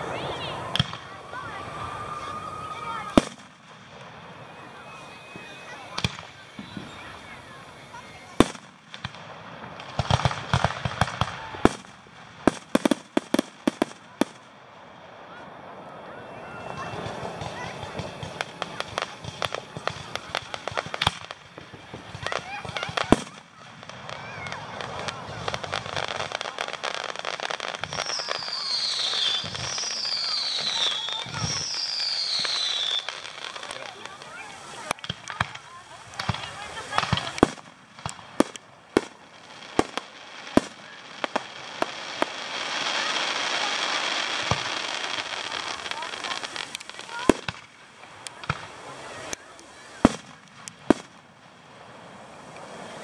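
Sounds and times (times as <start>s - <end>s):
loud firework bangs: 0.0s - 14.5s, 16.0s - 53.0s
fireworks crackling and popping: 0.0s - 53.0s.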